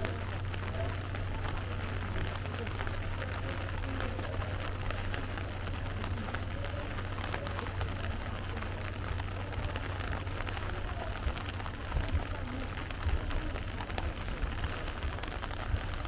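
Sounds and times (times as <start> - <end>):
steady rain pattering: 0.0 - 16.0.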